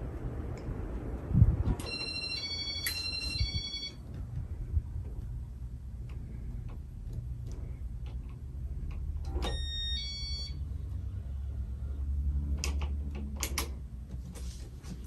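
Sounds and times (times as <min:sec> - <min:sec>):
ceiling fan whirring: 0:00.0 - 0:15.0.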